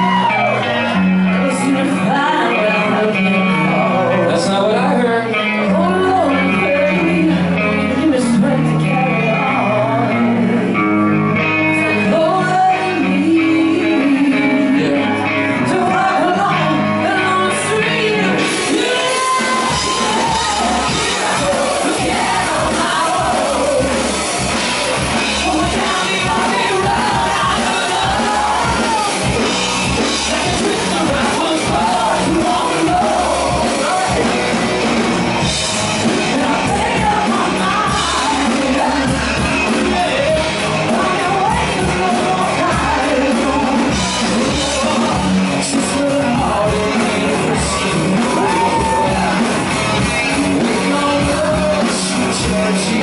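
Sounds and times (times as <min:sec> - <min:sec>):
live rock band playing: 0:00.0 - 0:53.0
man and woman singing: 0:01.4 - 0:10.6, 0:11.8 - 0:24.2, 0:25.2 - 0:34.6, 0:36.0 - 0:53.0.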